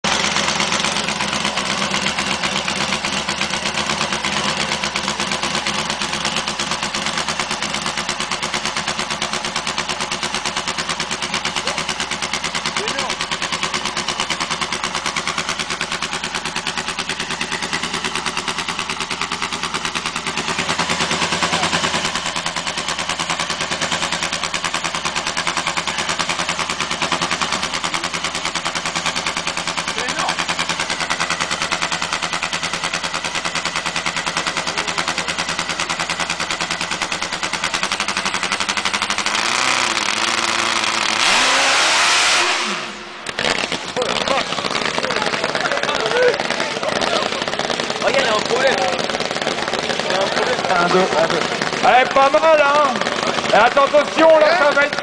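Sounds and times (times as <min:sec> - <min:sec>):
loud motorcycle engine: 0:00.0 - 0:55.0.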